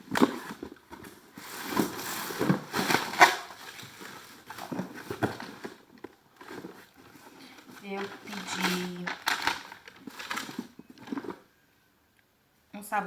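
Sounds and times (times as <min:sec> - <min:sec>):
packaging rustling: 0:00.0 - 0:11.5.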